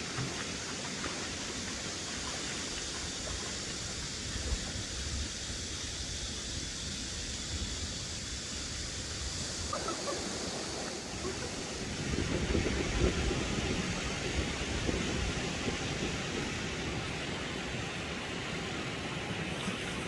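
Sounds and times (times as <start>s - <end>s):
mountain stream water rushing: 0.0s - 6.2s, 6.8s - 20.0s.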